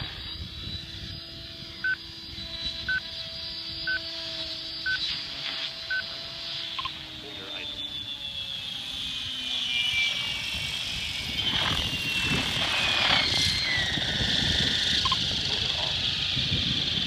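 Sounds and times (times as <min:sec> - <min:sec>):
rc helicopter high whine: 0:00.0 - 0:17.0
rotor blades rushing: 0:00.0 - 0:17.0.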